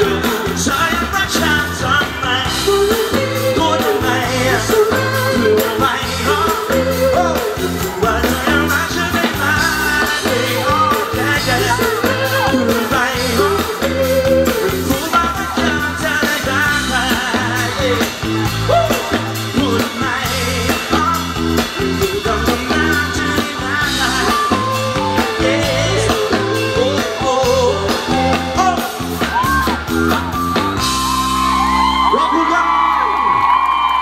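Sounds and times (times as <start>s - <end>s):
man singing lead vocal: 0.0s - 30.3s
pop-rock band playing: 0.0s - 34.0s.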